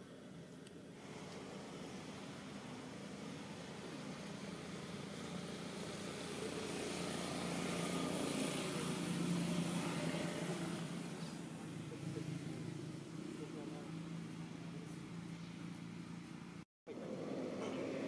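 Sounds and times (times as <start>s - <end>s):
engine passing by: 1.0s - 18.0s.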